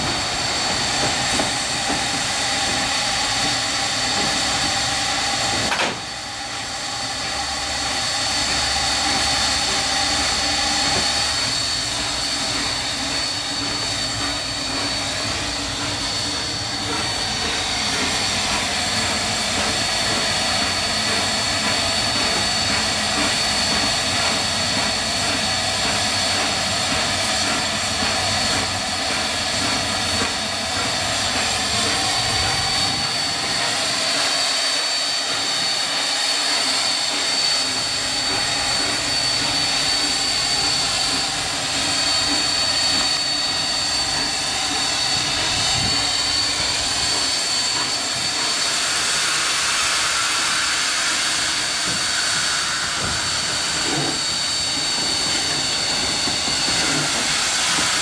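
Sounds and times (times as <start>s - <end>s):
steam hissing from locomotive: 0.0s - 58.0s.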